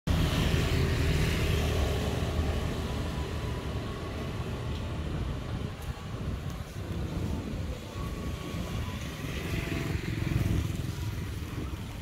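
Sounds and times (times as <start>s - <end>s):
passing vehicle rumble: 0.1s - 12.0s.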